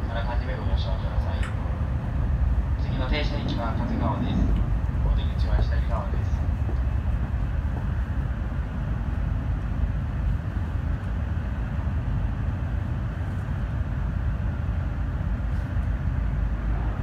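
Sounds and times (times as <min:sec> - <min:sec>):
train rumbling at speed: 0:00.0 - 0:17.0.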